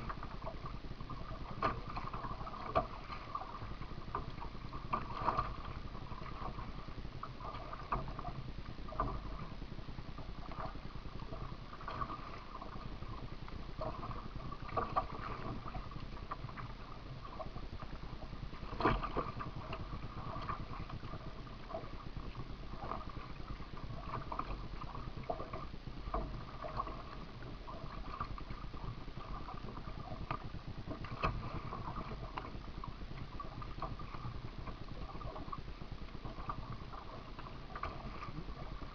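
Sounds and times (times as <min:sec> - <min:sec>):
paddle splashing in water: 0:00.0 - 0:09.5, 0:10.4 - 0:17.6, 0:18.6 - 0:38.9.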